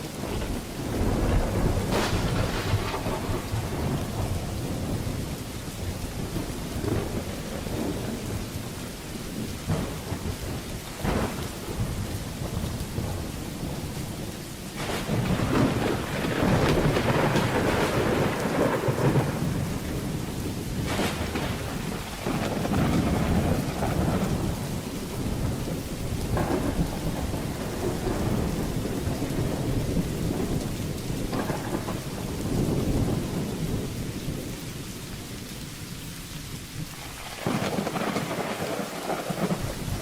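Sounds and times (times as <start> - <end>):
rolling thunder: 0.0 - 35.9, 36.7 - 40.0
heavy rain: 0.0 - 40.0.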